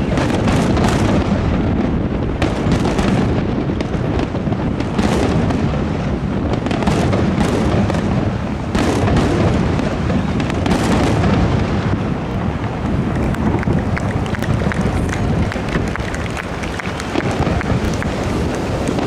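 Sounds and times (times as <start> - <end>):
fireworks bangs: 0.0 - 19.0
fireworks booming rumble: 0.0 - 19.0
fireworks crackling: 0.0 - 19.0.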